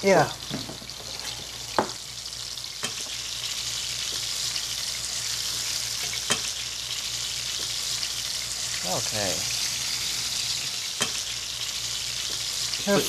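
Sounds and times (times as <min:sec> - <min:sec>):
tofu sizzling in oil: 0:00.0 - 0:13.0.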